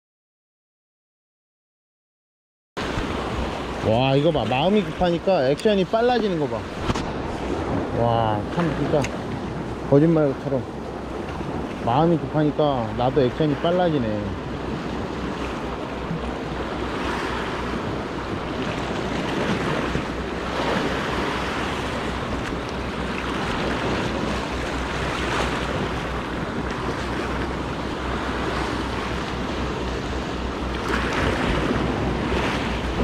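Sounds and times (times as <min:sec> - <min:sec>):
waves breaking over rocks: 0:02.8 - 0:33.0
wind rumbling on the microphone: 0:02.8 - 0:33.0.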